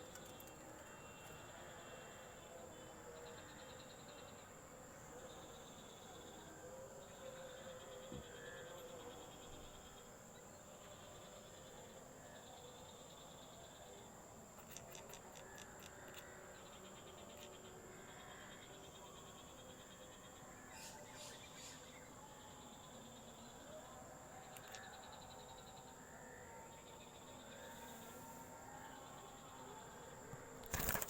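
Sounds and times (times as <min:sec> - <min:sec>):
crickets chirping: 0:00.0 - 0:31.0
high-pitched insect whine: 0:00.0 - 0:31.0.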